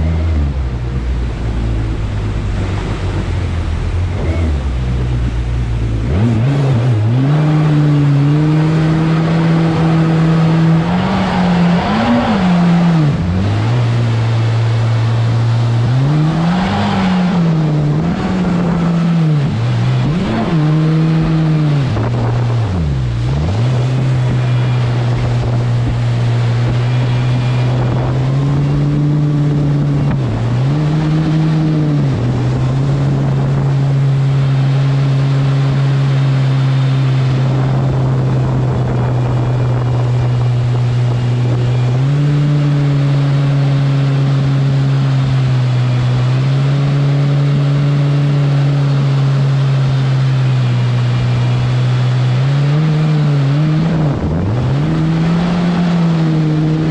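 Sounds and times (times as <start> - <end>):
boat engine revving: 0.0 - 56.9
water rushing under hull: 0.0 - 56.9.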